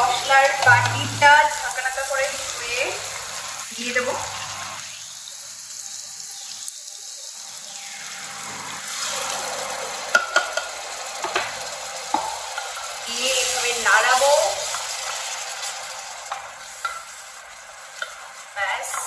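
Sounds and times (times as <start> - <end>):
paste sizzling in oil: 0.0 - 19.0.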